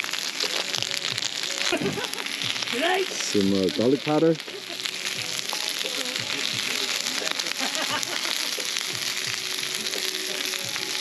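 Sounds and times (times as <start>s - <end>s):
shrimp sizzling in hot oil: 0.0s - 11.0s.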